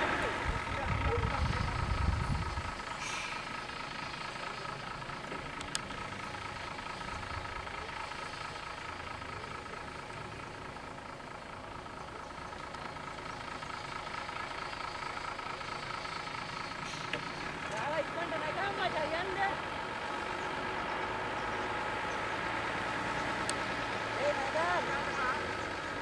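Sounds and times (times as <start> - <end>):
bus diesel engine idling: 0.0 - 26.0.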